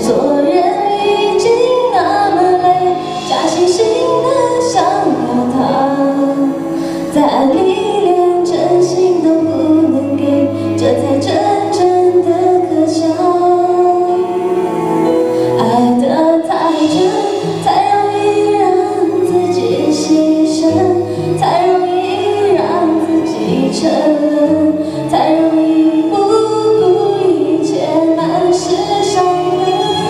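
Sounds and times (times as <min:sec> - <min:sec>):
instrumental accompaniment: 0:00.0 - 0:30.0
woman singing into microphone: 0:00.0 - 0:30.0.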